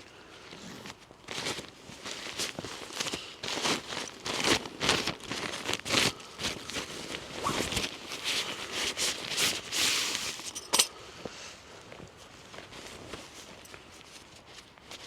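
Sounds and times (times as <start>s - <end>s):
tent fabric rustling: 0.4s - 10.6s, 11.4s - 15.0s.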